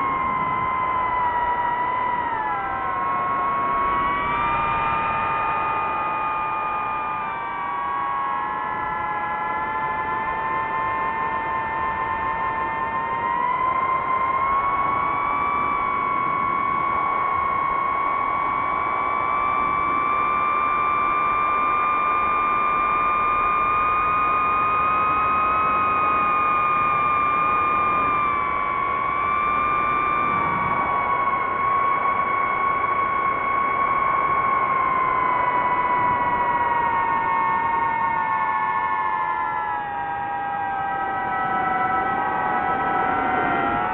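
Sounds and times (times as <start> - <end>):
drone propellers whining: 0.0 - 43.9.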